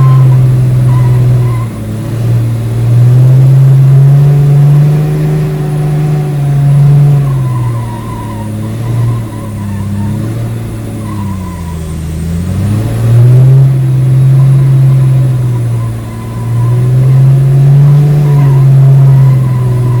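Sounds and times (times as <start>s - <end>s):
truck engine revving high: 0.0s - 20.0s.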